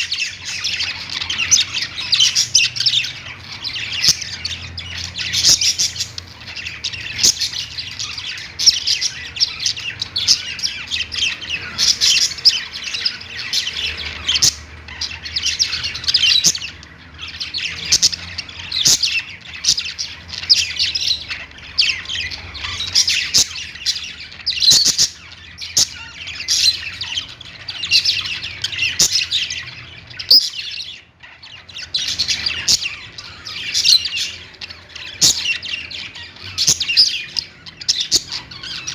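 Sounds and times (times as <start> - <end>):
budgerigars warbling and chirping: 0.0 - 38.9.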